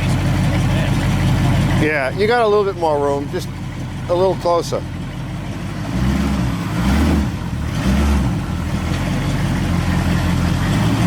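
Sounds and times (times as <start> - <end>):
vehicle engine running at low speed: 0.0 - 11.0.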